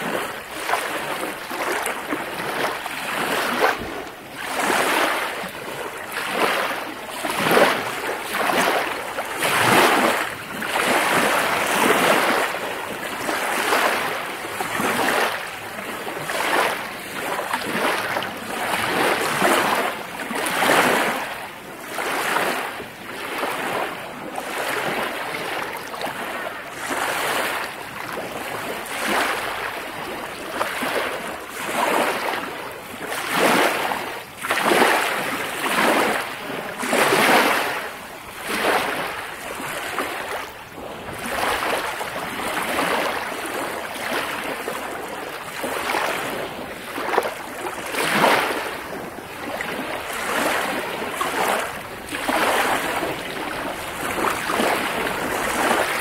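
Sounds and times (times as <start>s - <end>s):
waves lapping against shore: 0.0s - 56.0s.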